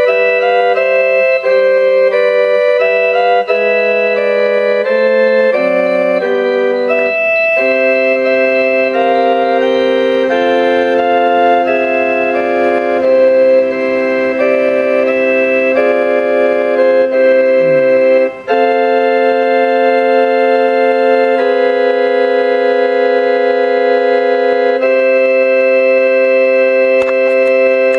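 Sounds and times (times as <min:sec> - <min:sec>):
keyboard organ chords: 0:00.0 - 0:27.9.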